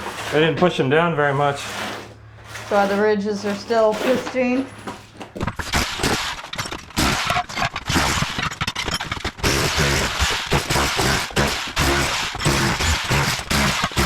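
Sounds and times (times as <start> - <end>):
rotary hammer chiseling tile: 0.0 - 14.0
tile cracking and scraping: 0.0 - 14.0.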